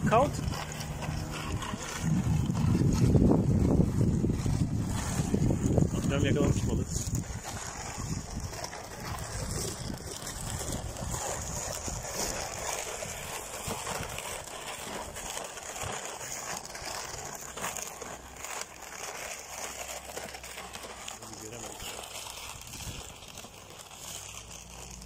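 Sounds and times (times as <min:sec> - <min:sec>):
footsteps crunching on snow: 0:00.0 - 0:25.0
sled scraping over snow: 0:00.0 - 0:25.0.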